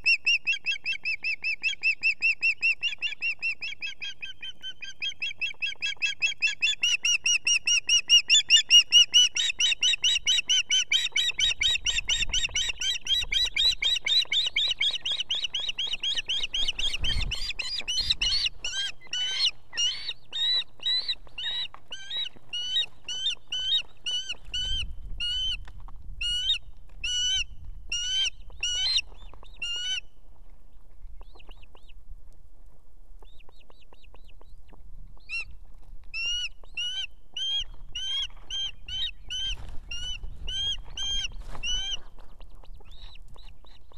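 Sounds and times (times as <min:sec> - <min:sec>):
bird piping chirps: 0:00.0 - 0:25.6, 0:26.2 - 0:30.1, 0:36.2 - 0:43.9.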